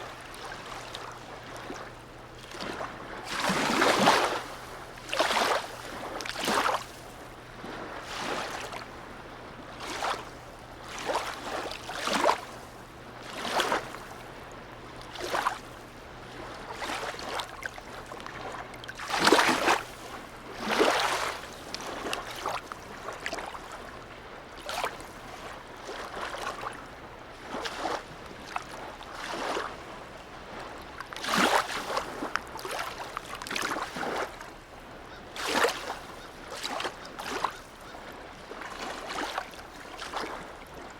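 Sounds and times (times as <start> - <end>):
waves lapping and splashing: 0.0 - 40.9.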